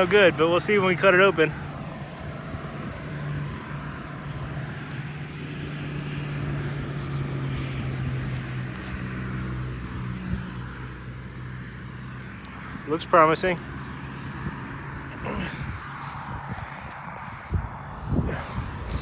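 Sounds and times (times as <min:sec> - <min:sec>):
distant engine drone: 0:00.0 - 0:19.0
outdoor background noise: 0:00.0 - 0:19.0.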